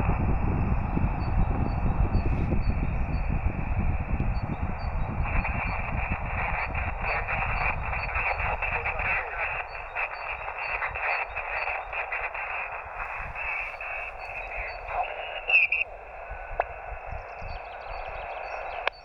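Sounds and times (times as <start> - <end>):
radio band hiss: 0.0 - 19.0
radio crackles: 0.0 - 19.0
weak garbled radio voices: 0.0 - 19.0.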